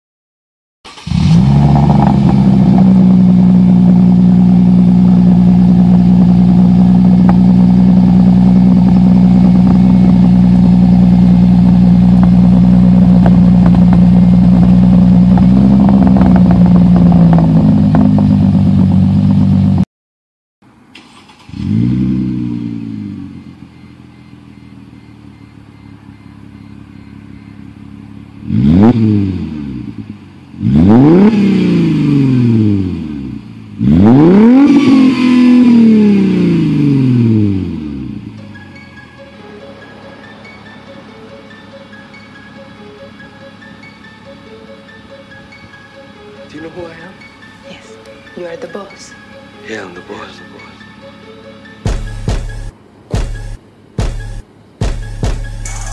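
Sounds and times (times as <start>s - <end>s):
car exhaust idling and revving: 0.9s - 19.8s, 21.4s - 49.6s, 51.8s - 55.9s.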